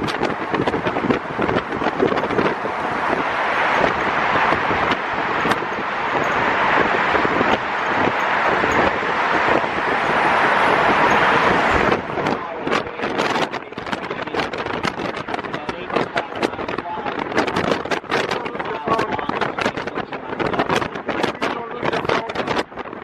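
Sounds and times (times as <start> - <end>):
bus road noise: 0.0 - 23.0
wind rushing over microphone: 0.0 - 23.0.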